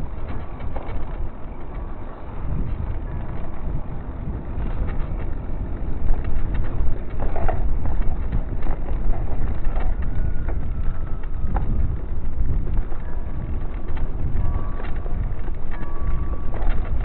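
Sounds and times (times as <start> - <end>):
bike clicks and rattles: 0.0 - 17.0
tyres rolling on dirt: 0.0 - 17.0
wind on microphone: 0.0 - 17.0.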